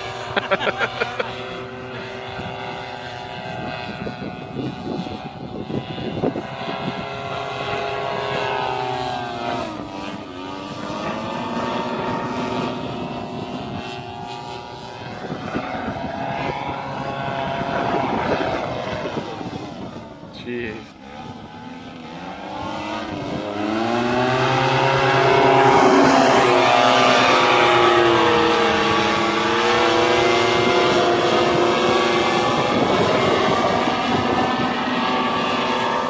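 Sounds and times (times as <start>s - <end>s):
paramotor engine and propeller drone: 0.0s - 36.0s
wind buffeting microphone: 0.0s - 36.0s.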